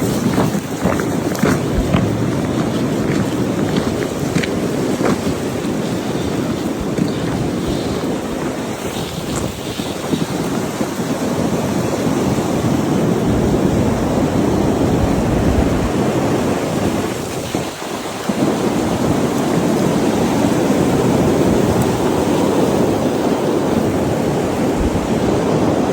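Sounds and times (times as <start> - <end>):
blizzard wind buffeting microphone: 0.0 - 25.9.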